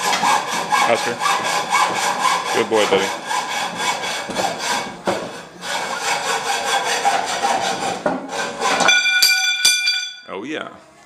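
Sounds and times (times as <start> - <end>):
metal rasping strokes: 0.0 - 10.3.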